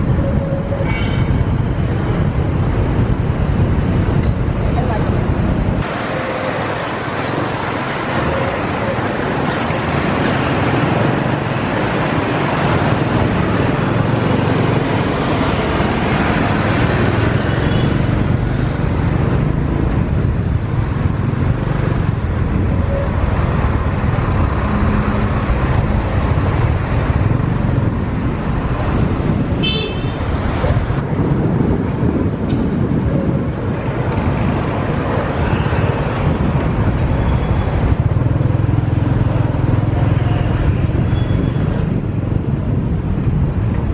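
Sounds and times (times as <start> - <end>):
road and traffic noise: 0.0 - 43.9.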